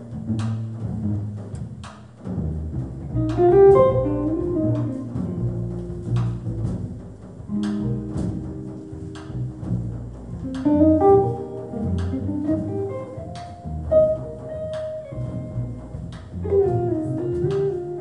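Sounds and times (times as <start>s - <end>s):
bowed strings: 0.0s - 18.0s
upright bass notes: 0.0s - 18.0s.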